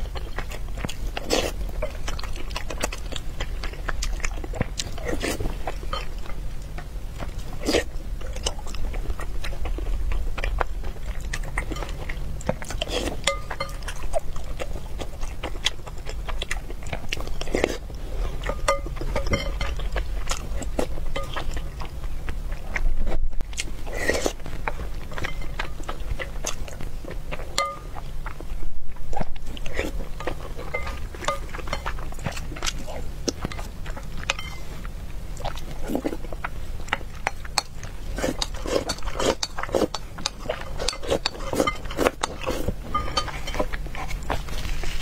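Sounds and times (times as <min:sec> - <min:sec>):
person chewing and biting food: 0:00.0 - 0:45.0
steady low hum: 0:00.0 - 0:45.0.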